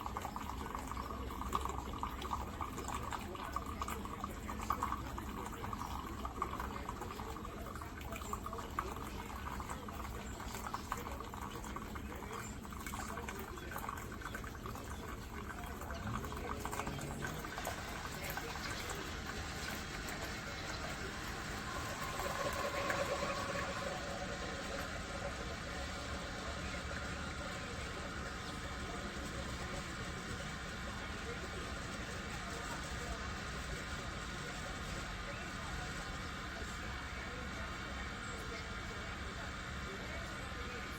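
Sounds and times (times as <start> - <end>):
coffee running into cup: 0.0 - 40.9.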